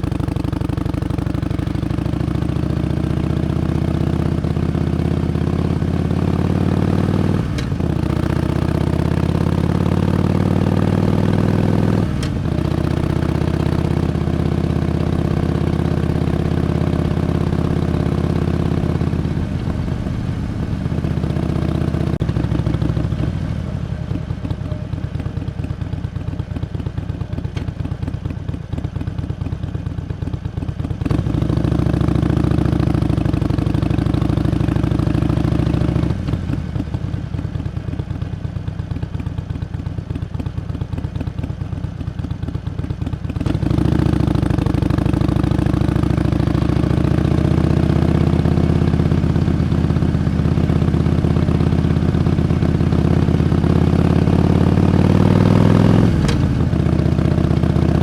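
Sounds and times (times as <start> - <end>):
motorcycle engine revving: 0.0 - 28.2, 28.8 - 37.9, 40.6 - 58.0.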